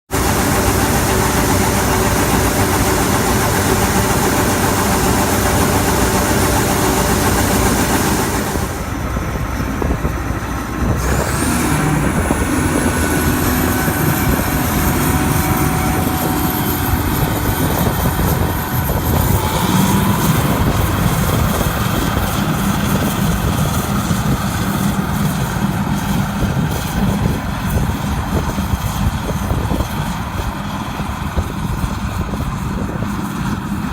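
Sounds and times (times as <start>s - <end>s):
high whine: 0.1s - 29.7s
diesel farm machinery running: 0.1s - 33.9s.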